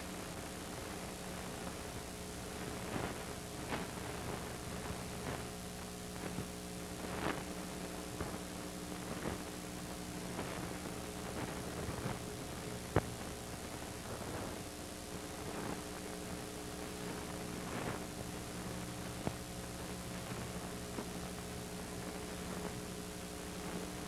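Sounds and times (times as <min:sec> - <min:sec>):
electrical hum and hiss: 0:00.0 - 0:24.0.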